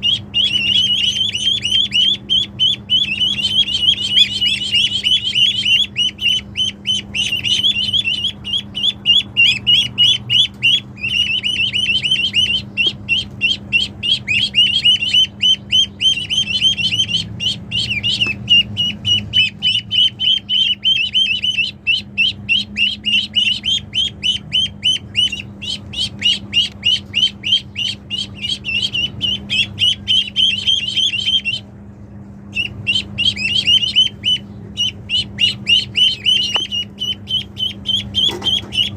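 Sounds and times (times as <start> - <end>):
ducks calling: 0.0 - 38.9.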